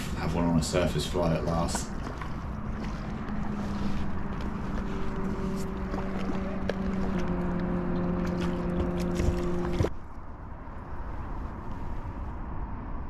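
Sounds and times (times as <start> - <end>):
steady engine drone: 0.0 - 13.0
wind on microphone: 1.2 - 13.0.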